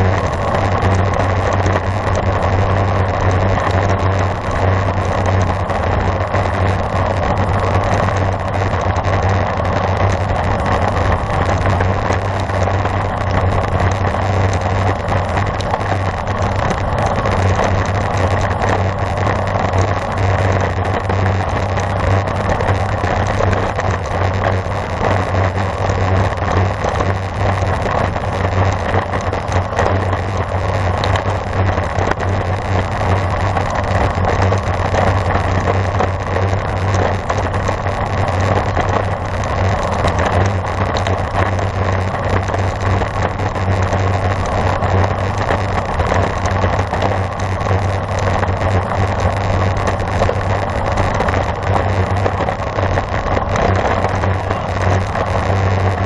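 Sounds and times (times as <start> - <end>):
constant low hum: 0.0 - 56.0
road noise: 0.0 - 56.0.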